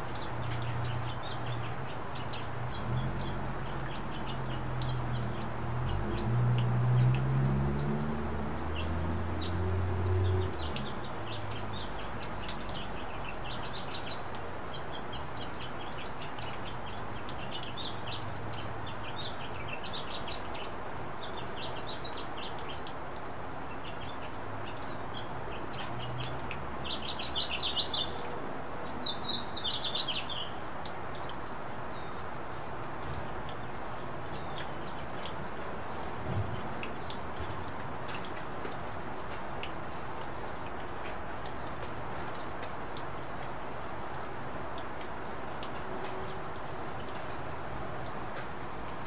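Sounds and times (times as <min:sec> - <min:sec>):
small birds chirping: 0:00.0 - 0:44.4
steady rain with drips: 0:00.0 - 0:49.0.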